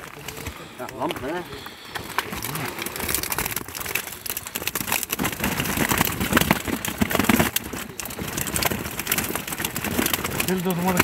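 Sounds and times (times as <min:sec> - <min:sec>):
wet net rustling and crackling: 0:00.0 - 0:11.0.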